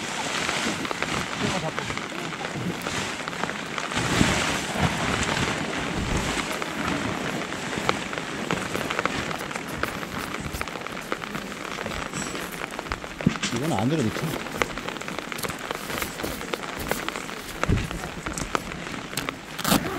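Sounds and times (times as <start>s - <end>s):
rain pattering on tent fabric: 0.0s - 19.9s.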